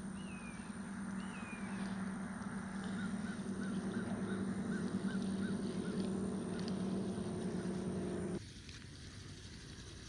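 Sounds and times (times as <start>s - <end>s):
bird calls: 0.0s - 8.4s
steady low hum: 0.0s - 10.0s.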